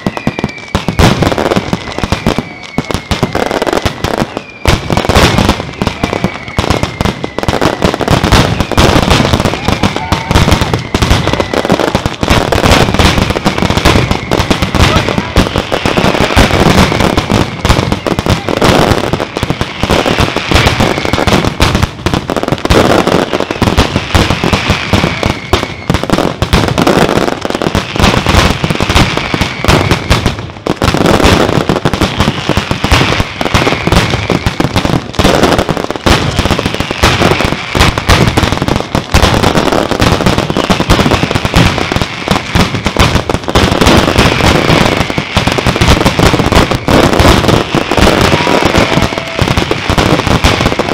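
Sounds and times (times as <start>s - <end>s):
fireworks bursting and crackling: 0.0s - 50.9s.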